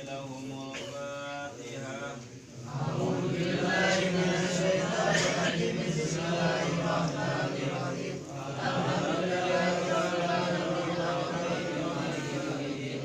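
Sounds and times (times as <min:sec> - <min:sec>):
men chanting prayers: 0:00.0 - 0:13.0.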